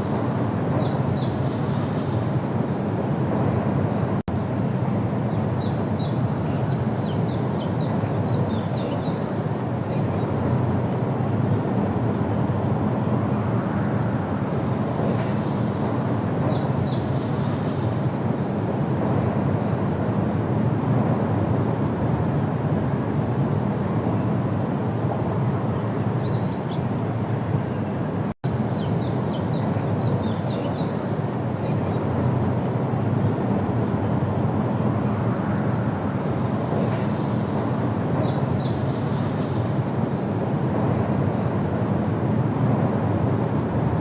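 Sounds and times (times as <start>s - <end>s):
low rumbling noise: 0.0s - 44.0s.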